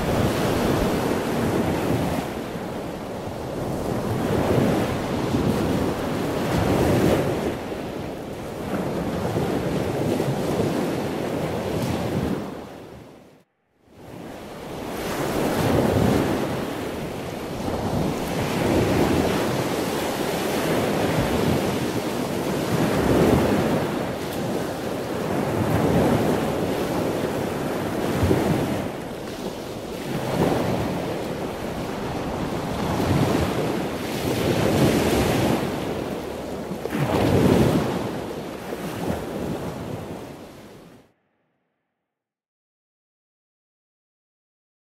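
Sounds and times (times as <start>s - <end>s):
ocean surf breaking: 0.0s - 13.0s, 14.0s - 41.1s
wind: 0.0s - 41.4s.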